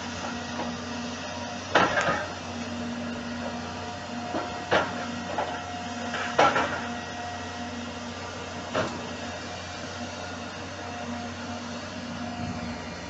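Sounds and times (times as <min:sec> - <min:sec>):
excavator machinery drone: 0:00.0 - 0:13.0.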